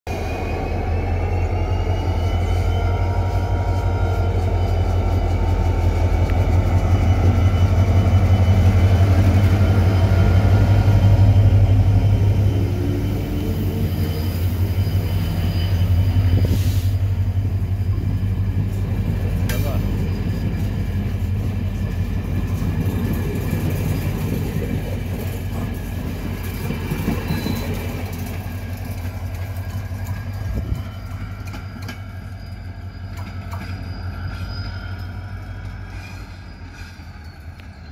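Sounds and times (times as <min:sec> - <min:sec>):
deep diesel locomotive rumble: 0:00.1 - 0:37.9
train coaches rolling by: 0:00.1 - 0:37.9.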